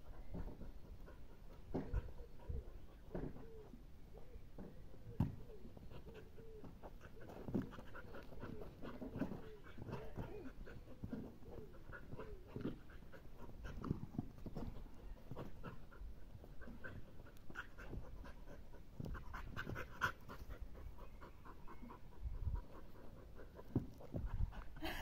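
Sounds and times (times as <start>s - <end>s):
dog panting: 0.0s - 25.0s.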